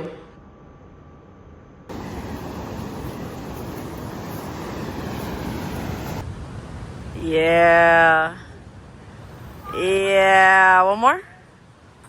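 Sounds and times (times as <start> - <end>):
steady rushing noise: 1.9 - 12.0.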